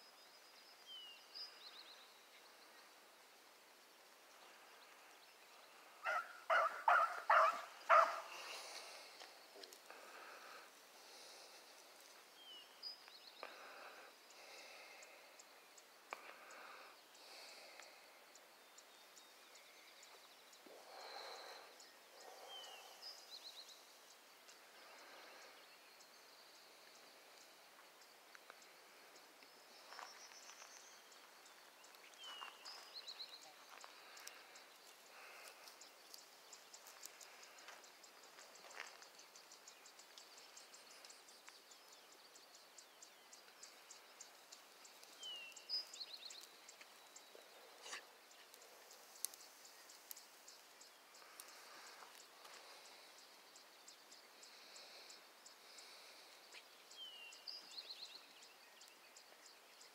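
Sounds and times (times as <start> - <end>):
faint ticks and rustles: 0.0 - 59.9.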